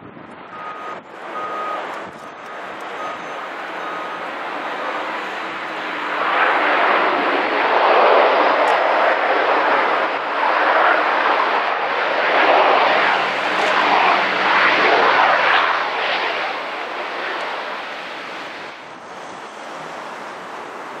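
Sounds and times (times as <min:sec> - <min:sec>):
turboprop aircraft engines roaring: 0:00.0 - 0:21.0.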